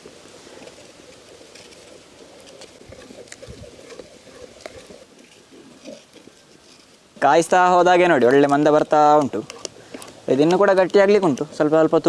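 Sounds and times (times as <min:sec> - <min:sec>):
bird calling: 0:00.0 - 0:12.0
outdoor background noise: 0:00.0 - 0:12.0.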